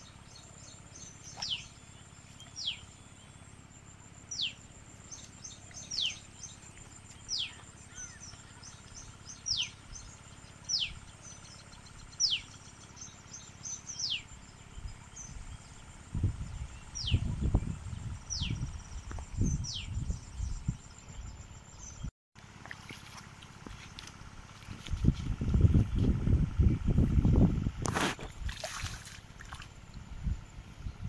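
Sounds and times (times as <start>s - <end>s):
low rumbling noise: 0.0s - 22.6s, 23.2s - 31.0s
insects droning: 0.0s - 31.0s.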